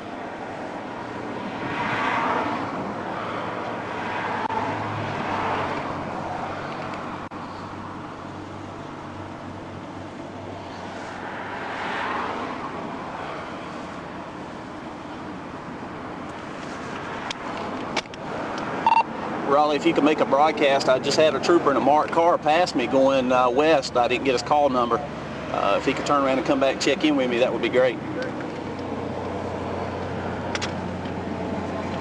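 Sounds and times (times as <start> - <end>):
steady road rumble: 0.0 - 32.0
vehicles passing: 0.0 - 32.0.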